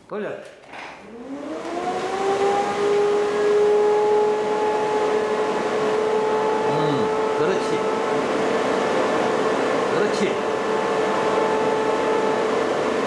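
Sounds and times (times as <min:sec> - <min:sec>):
fan motor whine: 0:00.7 - 0:13.0.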